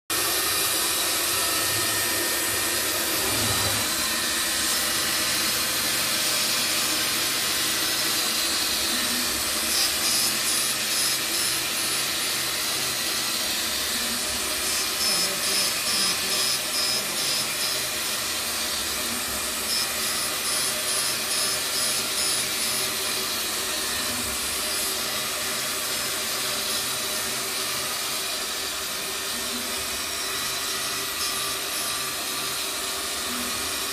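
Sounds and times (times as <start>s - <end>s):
blade cutting rapid pulsing: 0.1s - 33.9s.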